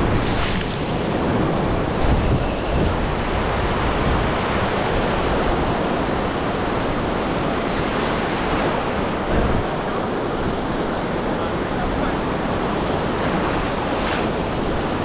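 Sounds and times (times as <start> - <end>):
water washing through shallows: 0.0 - 15.0
waves breaking: 0.0 - 15.0.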